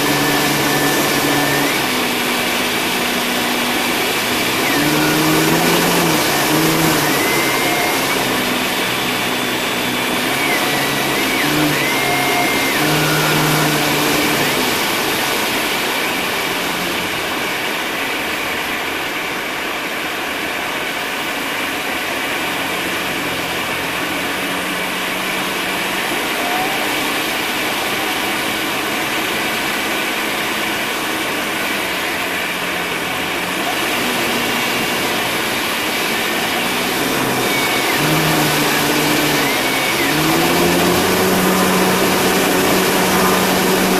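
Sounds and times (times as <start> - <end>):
propeller aircraft engine in flight: 0.0 - 43.9.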